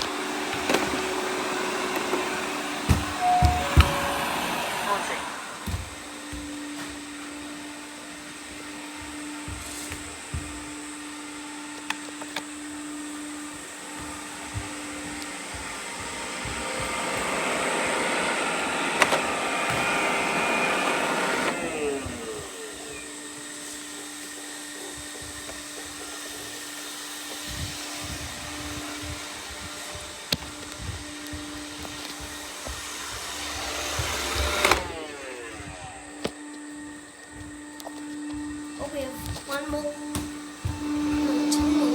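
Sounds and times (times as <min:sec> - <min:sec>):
robot vacuums humming: 0:00.0 - 0:41.9
vacuum motor whirring: 0:00.0 - 0:41.9.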